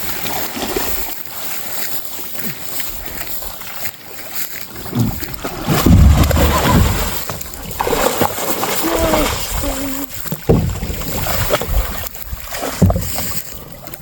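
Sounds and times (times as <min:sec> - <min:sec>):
water splashing around kayak: 0:00.0 - 0:14.0.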